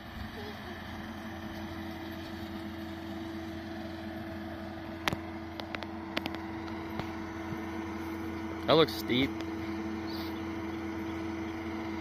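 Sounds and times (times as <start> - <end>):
tractor engine hum: 0.0 - 12.0.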